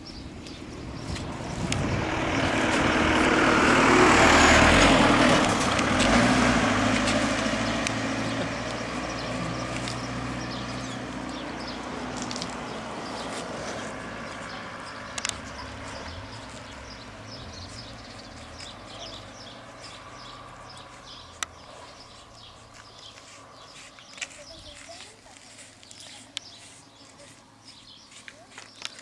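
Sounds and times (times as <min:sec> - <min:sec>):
truck passing by: 0:00.0 - 0:25.6.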